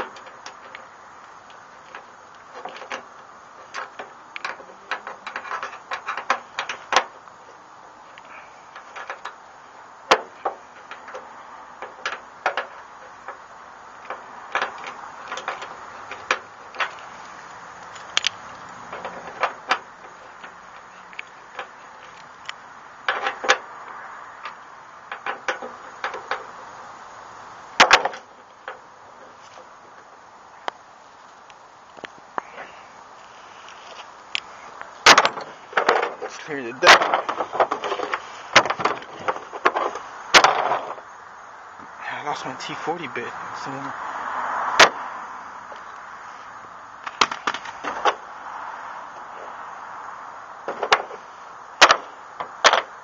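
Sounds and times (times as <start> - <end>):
steady low hiss: 0.0 - 53.0.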